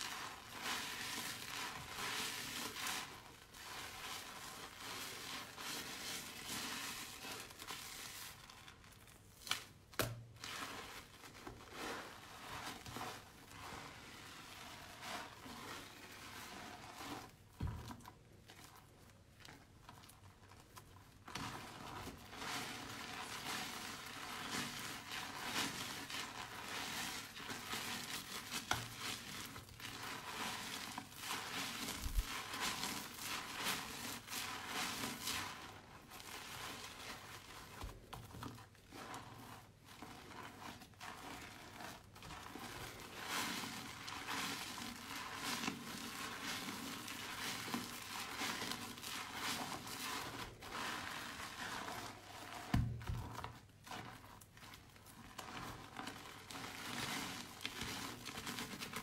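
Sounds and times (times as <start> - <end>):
wet soap squelching: 0.0 - 59.0.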